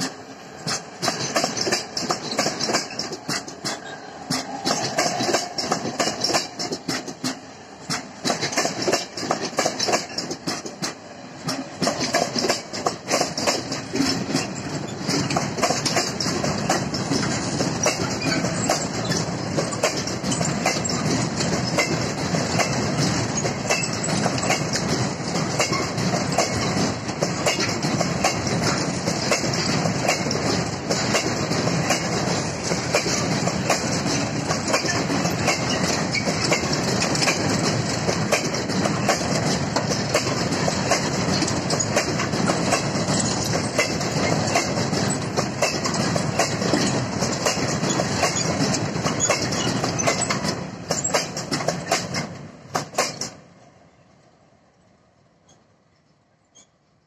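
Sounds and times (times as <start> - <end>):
wheels clattering over rail joints: 0.0 - 53.4
freight train rumbling past: 0.0 - 54.8.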